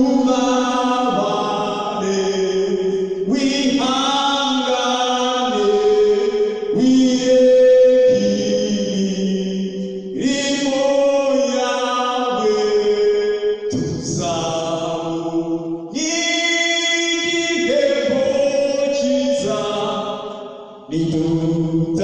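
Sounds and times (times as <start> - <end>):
man singing a hymn: 0.0 - 22.0.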